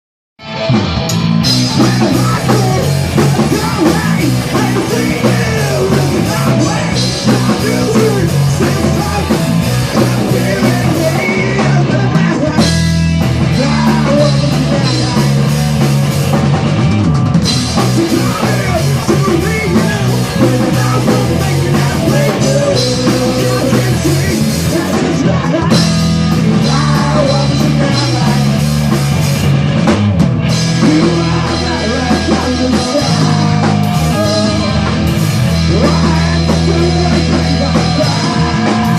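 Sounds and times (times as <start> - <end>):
rock band playing live: 0.4 - 38.9.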